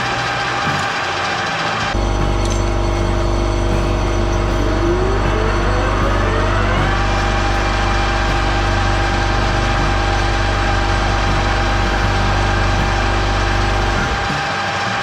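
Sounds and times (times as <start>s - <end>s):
low motor hum: 1.9s - 14.5s.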